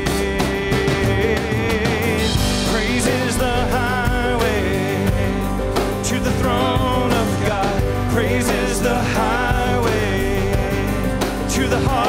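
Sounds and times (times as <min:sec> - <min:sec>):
acoustic guitar: 0:00.0 - 0:12.0
drums: 0:00.0 - 0:12.0
man singing with vibrato: 0:00.0 - 0:12.0.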